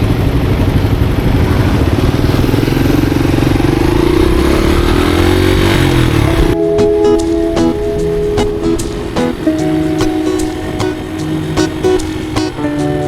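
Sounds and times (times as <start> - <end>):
motorcycle engine revving: 0.3 - 6.6, 7.4 - 13.0.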